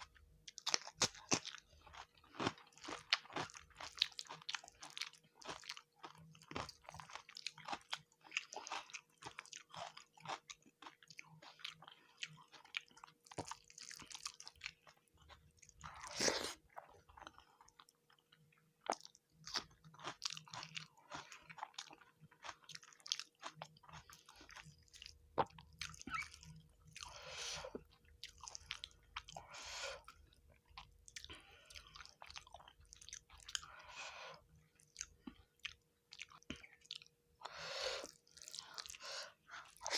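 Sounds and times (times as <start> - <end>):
wet chewing and mouth clicks: 0.1 - 39.0.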